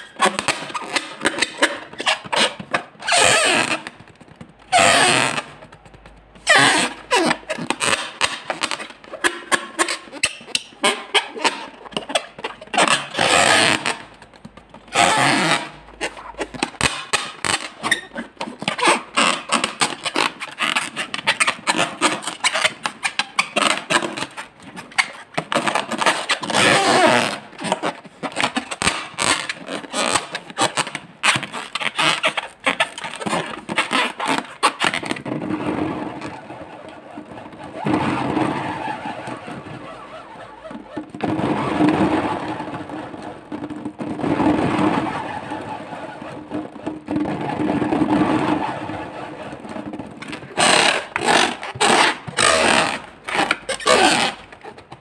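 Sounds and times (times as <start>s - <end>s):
balloon rubbing squeaks: 0.0s - 55.0s.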